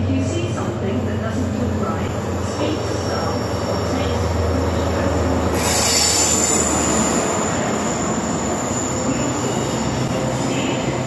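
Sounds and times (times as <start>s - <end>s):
train rushing rail noise: 0.0s - 11.0s.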